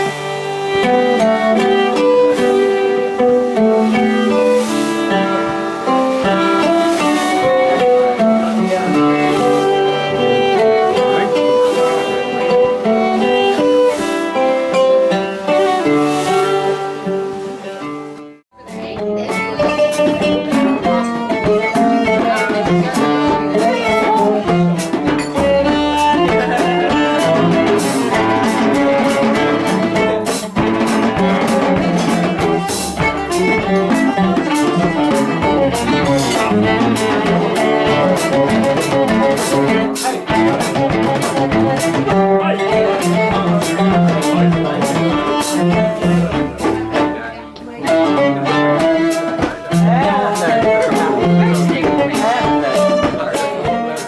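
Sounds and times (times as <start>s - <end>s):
drum kit strikes: 0.0s - 47.3s, 47.9s - 54.0s
bowed violin melody: 0.0s - 54.0s
plucked oud: 0.0s - 54.0s.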